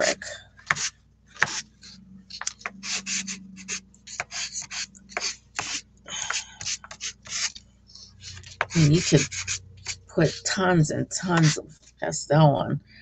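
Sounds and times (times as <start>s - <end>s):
pastel scratching on paper: 0.7s - 10.6s, 11.2s - 11.8s.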